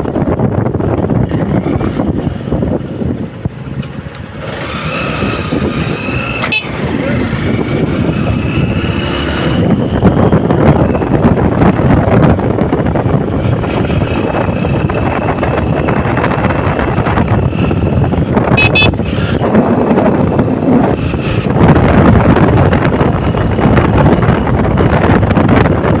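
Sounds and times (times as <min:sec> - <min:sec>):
vehicle running along street: 0:00.0 - 0:26.0
wind buffeting microphone: 0:00.0 - 0:26.0.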